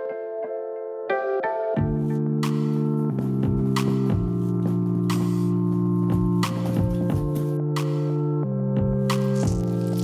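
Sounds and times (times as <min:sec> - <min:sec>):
background music held chords: 0:00.0 - 0:10.0.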